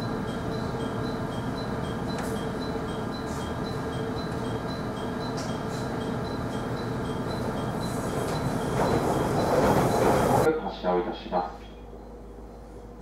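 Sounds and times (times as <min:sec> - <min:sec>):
train cabin hum: 0:00.0 - 0:13.0.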